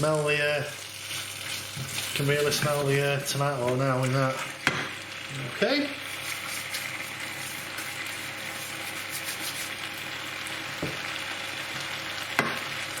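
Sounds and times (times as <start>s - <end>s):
curry sizzling in a frying pan: 0.0s - 13.0s.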